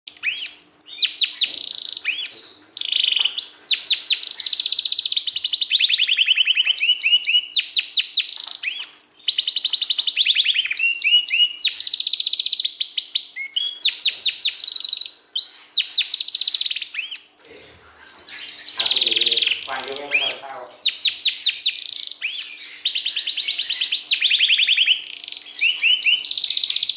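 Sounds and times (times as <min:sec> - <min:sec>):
canary singing fast trills: 0:00.1 - 0:26.9.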